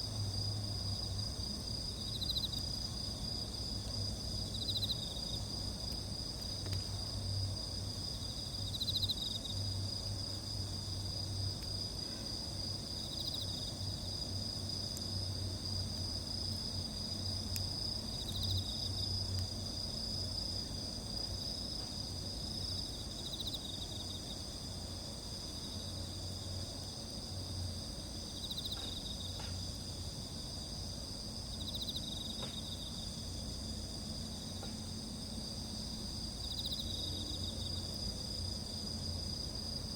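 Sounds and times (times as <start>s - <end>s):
crickets trilling: 0.0s - 39.9s
insect pulsed chirp: 0.0s - 39.9s
faint campfire crackles: 0.1s - 39.9s.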